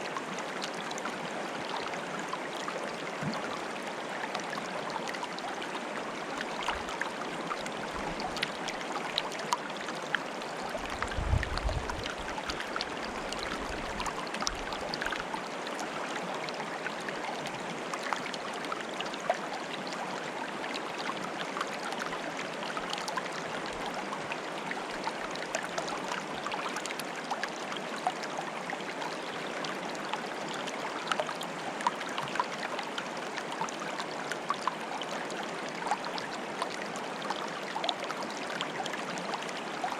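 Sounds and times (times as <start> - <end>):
water bubbling and trickling: 0.1 - 39.9.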